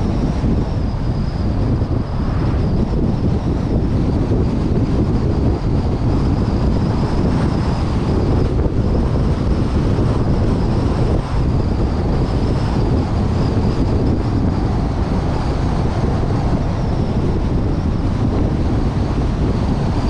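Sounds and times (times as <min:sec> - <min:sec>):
car in motion rumble: 0:00.0 - 0:20.0
wind noise on microphone: 0:00.0 - 0:20.0.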